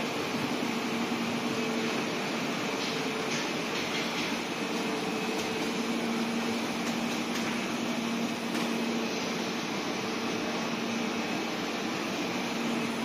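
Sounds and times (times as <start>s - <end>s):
machine whirring with low hum: 0.0s - 13.0s.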